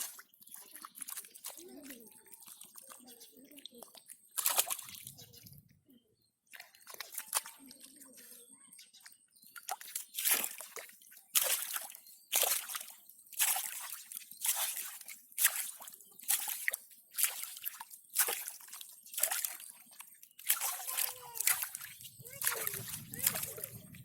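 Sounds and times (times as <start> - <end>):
water sloshing: 0.0 - 5.7, 6.5 - 24.0.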